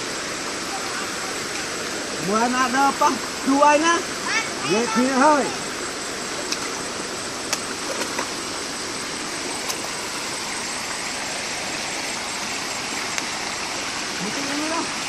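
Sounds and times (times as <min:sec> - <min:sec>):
stream water rushing over weir: 0:00.0 - 0:15.0.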